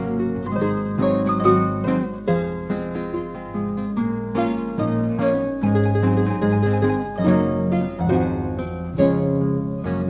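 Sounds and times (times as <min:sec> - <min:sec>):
classical guitar: 0:00.0 - 0:10.0
harp: 0:00.0 - 0:10.0.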